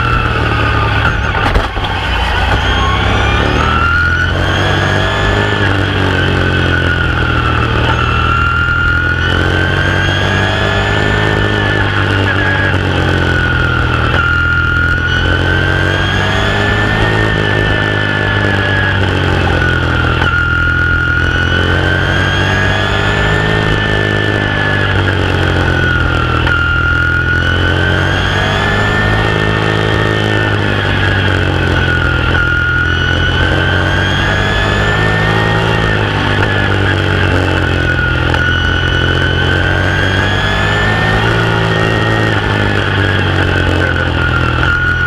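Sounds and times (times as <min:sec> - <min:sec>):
race car engine: 0:00.0 - 0:45.0.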